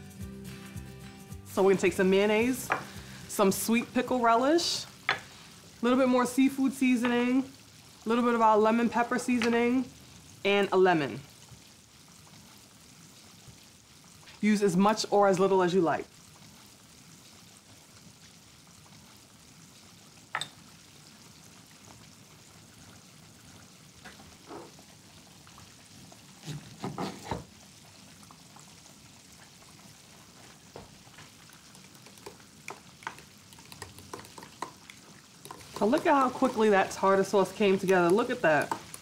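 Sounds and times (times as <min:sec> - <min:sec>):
fish deep-frying in oil: 0:01.6 - 0:39.0.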